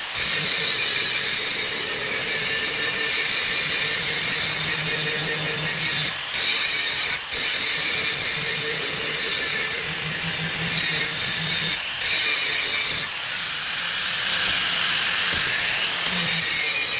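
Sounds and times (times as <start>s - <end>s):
machine high-pitched whine: 0.0s - 16.9s.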